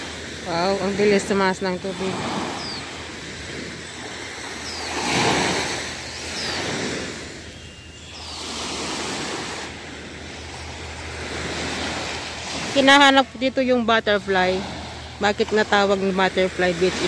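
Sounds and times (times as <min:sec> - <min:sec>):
waves washing onto beach: 0:00.0 - 0:17.0.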